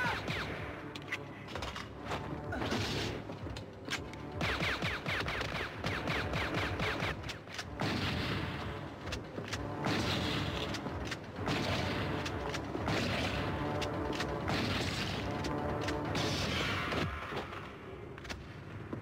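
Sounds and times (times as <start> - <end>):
dramatic orchestral film score: 0.0 - 19.0.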